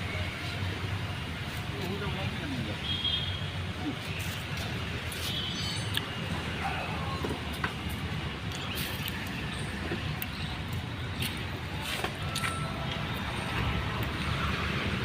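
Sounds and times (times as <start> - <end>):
low rumble of vehicle noise: 0.0 - 15.0.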